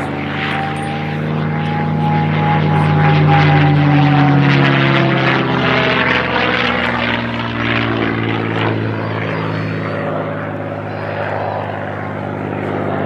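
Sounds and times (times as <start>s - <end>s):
propeller aircraft engine in flight: 0.0s - 13.0s.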